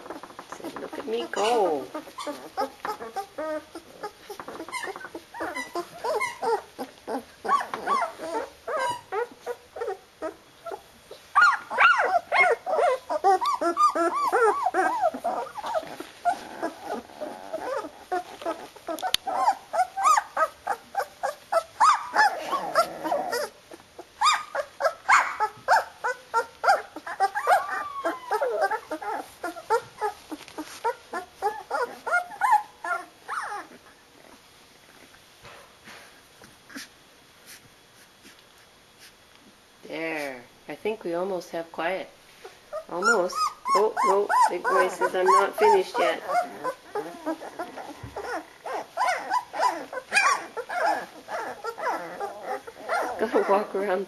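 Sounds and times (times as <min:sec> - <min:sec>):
puppies crying and yelping: 0:00.0 - 0:35.2, 0:42.3 - 0:54.0.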